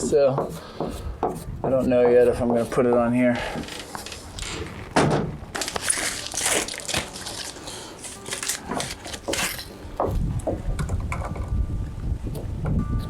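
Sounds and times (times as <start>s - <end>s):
knocks clicks and scraping: 0.0s - 11.6s.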